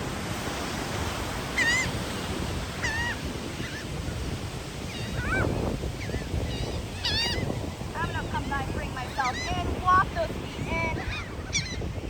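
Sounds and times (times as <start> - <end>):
surf: 0.0 - 12.0
wind: 0.0 - 12.0
seagulls calling: 1.5 - 12.0.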